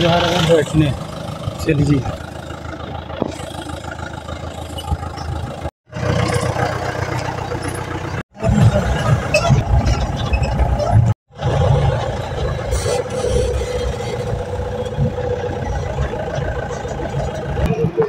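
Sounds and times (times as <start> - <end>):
diesel engine running inside cabin: 0.0 - 18.0.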